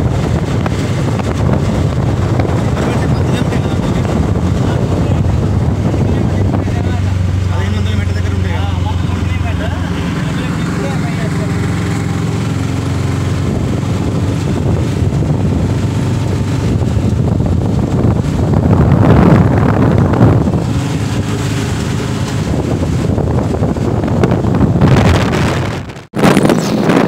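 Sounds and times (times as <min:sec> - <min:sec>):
auto-rickshaw engine running: 0:00.0 - 0:26.6
wind buffeting microphone: 0:00.0 - 0:27.0.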